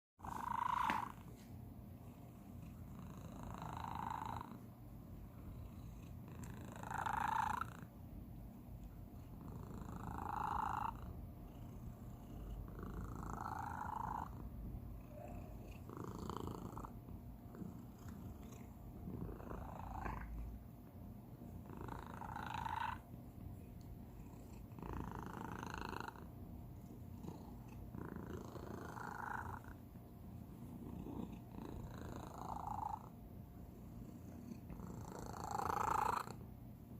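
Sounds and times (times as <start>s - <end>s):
cat purring: 0.2s - 36.6s.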